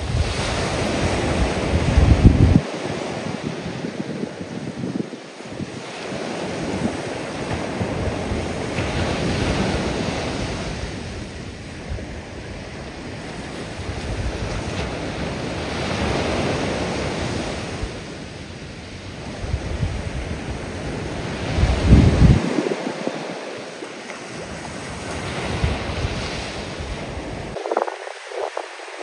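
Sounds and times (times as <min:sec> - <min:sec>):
waves breaking on a beach: 0:00.0 - 0:29.0
wind buffeting microphone: 0:00.0 - 0:29.0.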